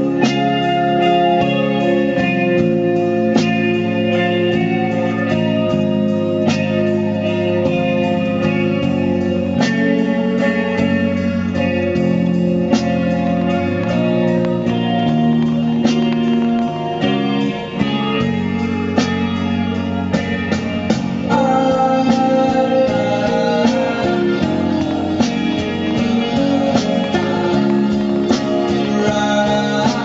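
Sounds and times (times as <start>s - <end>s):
guitars playing: 0.0s - 30.0s
low accompaniment: 0.0s - 30.0s.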